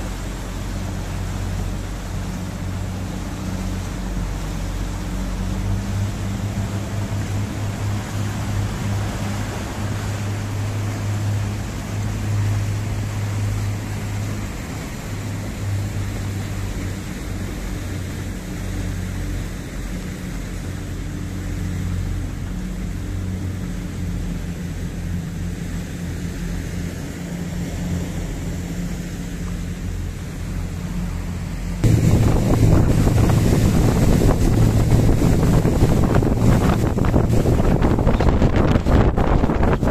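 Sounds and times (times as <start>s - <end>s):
boat engine humming: 0.0s - 39.9s
water and wind hiss: 0.0s - 39.9s.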